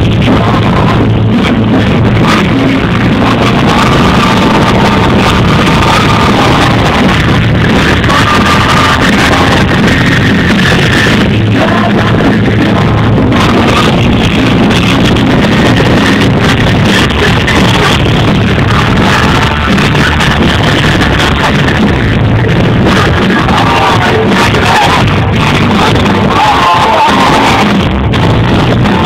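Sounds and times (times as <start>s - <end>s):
live rock band playing: 0.0s - 29.0s
static hiss: 0.0s - 29.0s.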